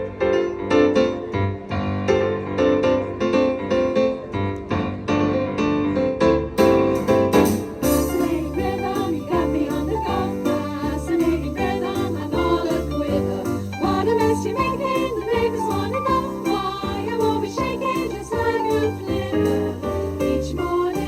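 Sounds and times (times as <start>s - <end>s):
bouncy piano music: 0.0s - 21.0s.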